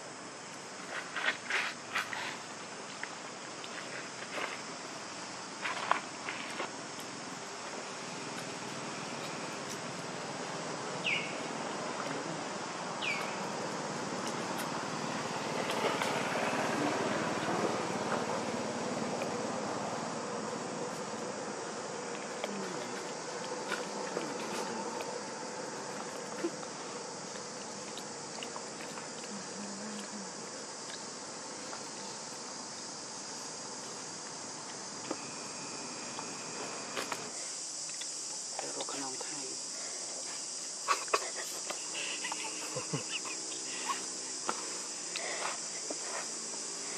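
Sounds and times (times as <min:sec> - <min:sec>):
insect chorus drone: 0:00.0 - 0:46.9
steady outdoor hiss: 0:00.0 - 0:46.9.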